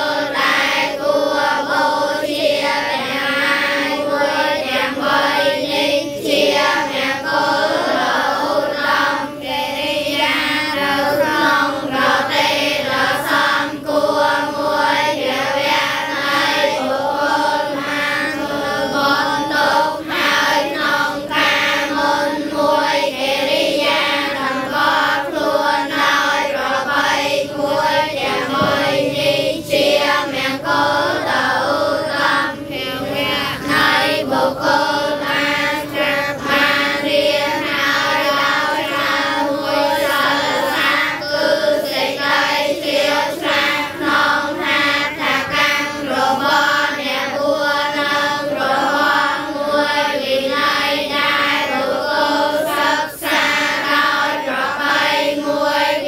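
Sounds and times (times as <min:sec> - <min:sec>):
children chanting in unison: 0:00.0 - 0:56.0.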